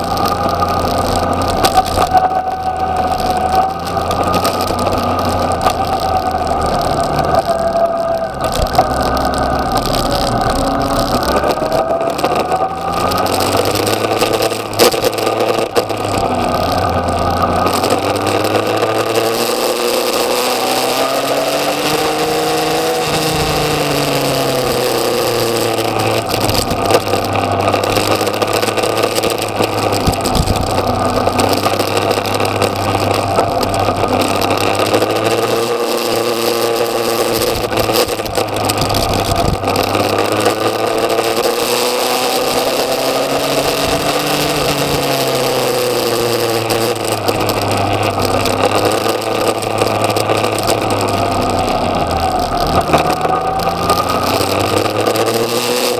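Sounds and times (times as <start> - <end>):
motorcycle engine revving: 0.0 - 55.9
wind noise on microphone: 0.0 - 55.9.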